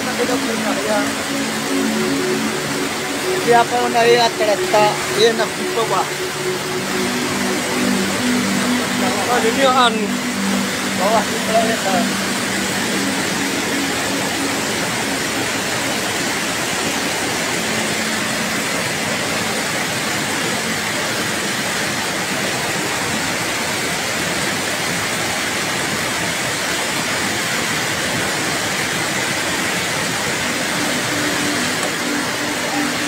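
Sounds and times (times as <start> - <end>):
floodwater rushing down street: 0.0 - 33.0.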